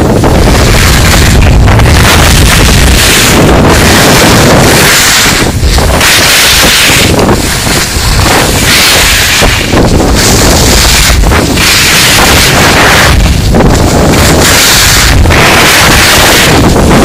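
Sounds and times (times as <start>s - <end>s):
wind noise on microphone: 0.0s - 17.0s
skis hissing on snow: 0.1s - 17.0s.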